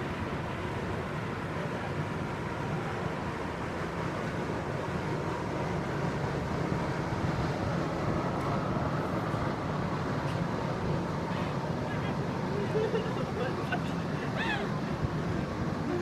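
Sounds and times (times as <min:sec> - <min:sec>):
city ambience low rumble: 0:00.0 - 0:16.0.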